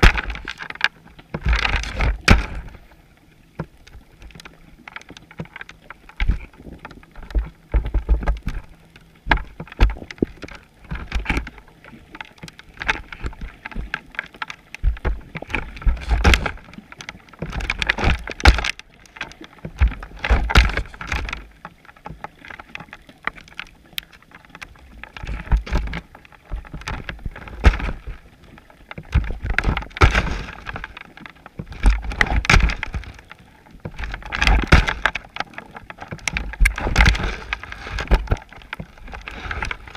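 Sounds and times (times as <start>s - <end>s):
underwater knocking and rattling: 0.0s - 3.0s, 3.6s - 39.9s.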